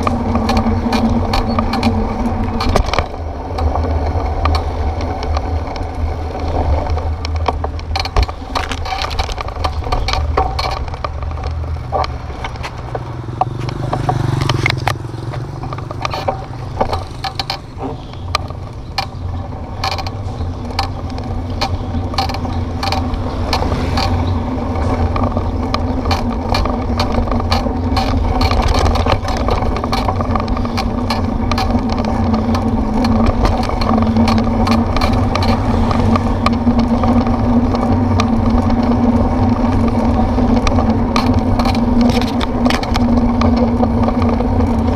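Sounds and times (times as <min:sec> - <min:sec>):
bicycle rattling and clicking: 0:00.0 - 0:44.9
constant low rumble: 0:00.0 - 0:44.9.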